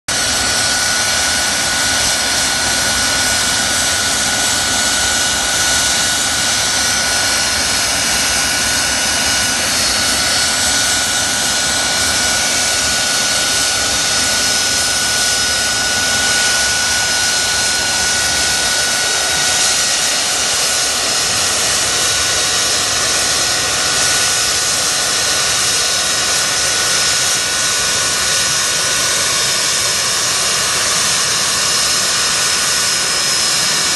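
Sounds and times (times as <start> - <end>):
jet engine whine and hiss: 0.1 - 33.9.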